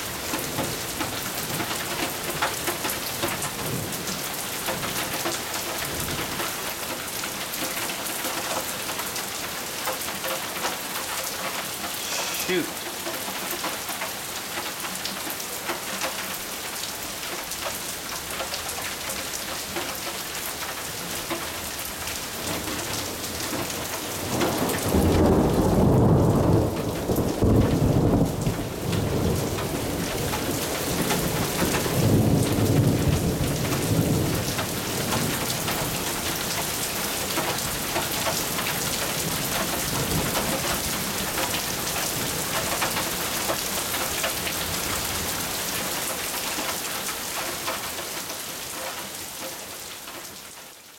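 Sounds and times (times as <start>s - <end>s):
rain falling: 0.0s - 50.9s.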